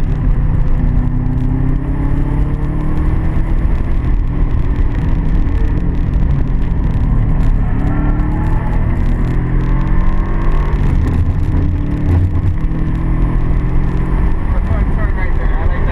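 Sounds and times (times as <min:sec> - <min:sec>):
car engine running under load: 0:00.0 - 0:15.9.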